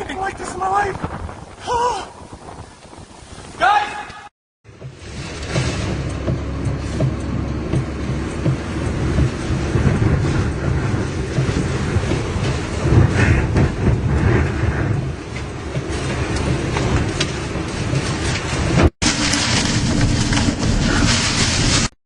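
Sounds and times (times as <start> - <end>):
wind buffeting microphone: 0.0 - 21.9
tornado wind roaring: 0.0 - 22.0.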